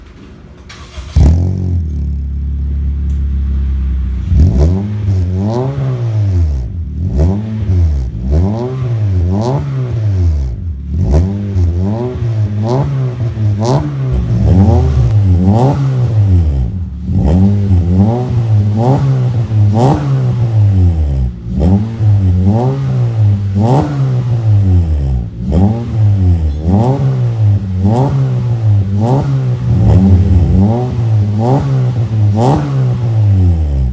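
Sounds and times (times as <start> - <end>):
car engine idling and revving: 0.7 - 33.9.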